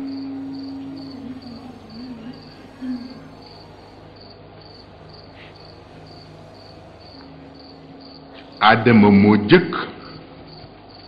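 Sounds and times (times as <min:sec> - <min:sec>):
wavering low hum: 0:00.0 - 0:10.9
crickets chirping: 0:00.0 - 0:11.0
steady low hum: 0:00.0 - 0:11.0.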